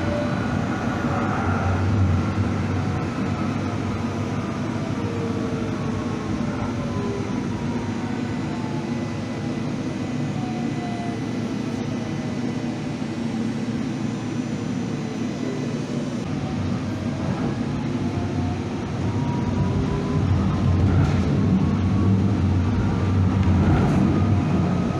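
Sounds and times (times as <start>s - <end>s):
electric train rumble: 0.0s - 24.9s
traction motor whine: 0.0s - 24.9s.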